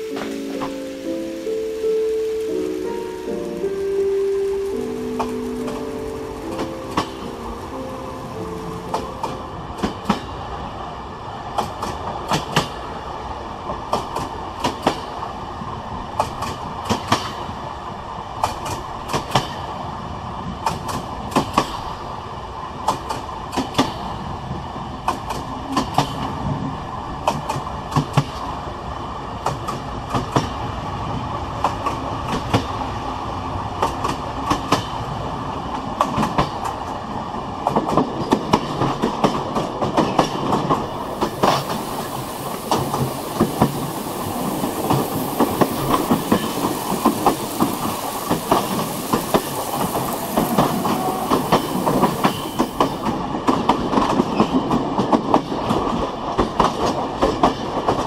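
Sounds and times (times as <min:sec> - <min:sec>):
train rolling hum: 0:00.0 - 0:58.0
train wheels clicking over rail joints: 0:05.1 - 0:10.8, 0:11.4 - 0:13.0, 0:13.6 - 0:17.7, 0:18.4 - 0:22.1, 0:22.8 - 0:28.6, 0:29.3 - 0:33.0, 0:33.6 - 0:58.0.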